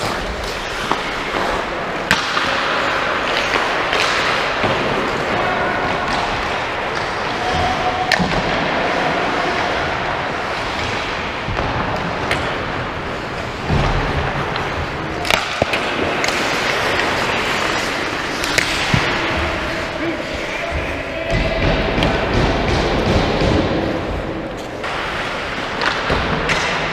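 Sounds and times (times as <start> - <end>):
hockey sticks and puck cracking: 0.0 - 26.9
skates scraping on ice: 0.0 - 26.9.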